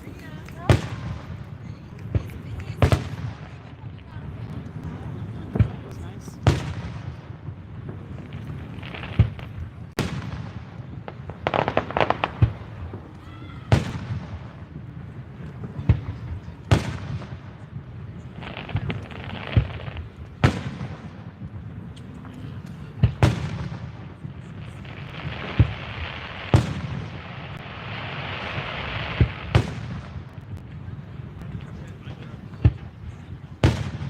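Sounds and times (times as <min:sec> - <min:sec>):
fireworks booming: 0:00.0 - 0:34.0
rapid fireworks crackling: 0:00.0 - 0:34.0.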